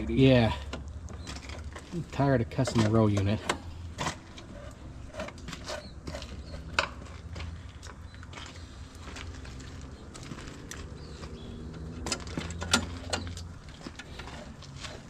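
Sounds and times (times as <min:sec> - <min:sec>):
hand tools clinking on metal: 0:00.0 - 0:08.6, 0:10.5 - 0:15.0.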